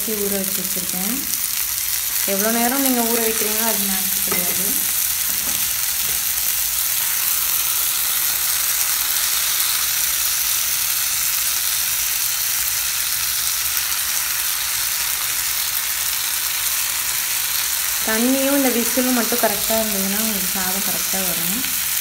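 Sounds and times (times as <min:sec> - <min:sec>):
masala sizzling in oil: 0:00.0 - 0:22.0.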